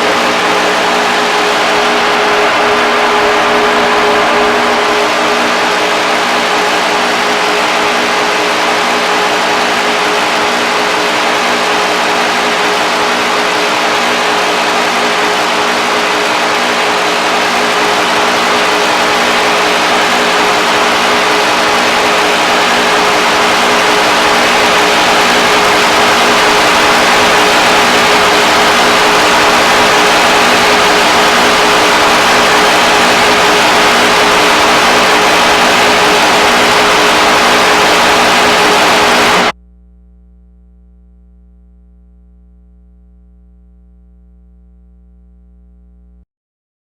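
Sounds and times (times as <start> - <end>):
dense static hiss: 0.0 - 39.5
steady low tones: 0.0 - 46.0.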